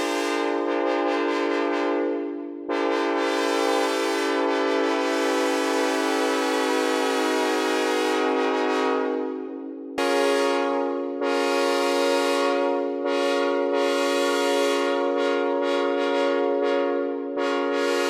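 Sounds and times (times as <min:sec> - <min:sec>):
synthesized train horn chord: 0:00.0 - 0:18.0.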